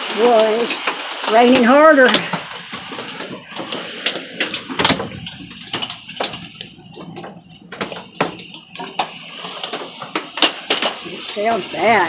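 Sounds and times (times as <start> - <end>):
hail and rain on a roof: 0.0 - 12.0.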